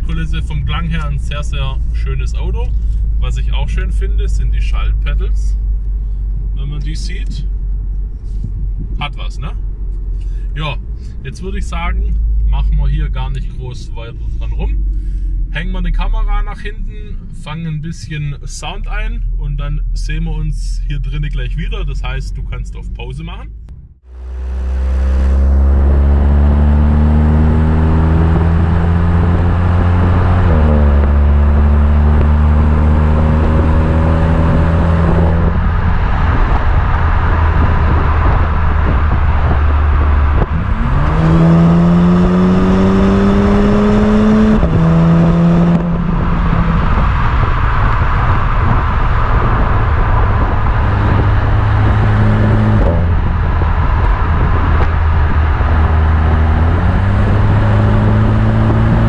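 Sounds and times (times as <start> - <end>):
car exhaust accelerating: 0.0 - 59.0.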